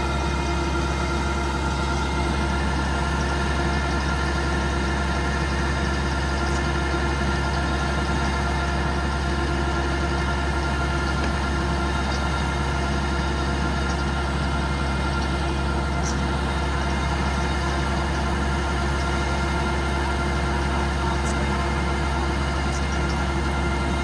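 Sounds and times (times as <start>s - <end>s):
combine harvester engine drone: 0.0s - 24.0s
steady whining tones: 0.0s - 24.0s.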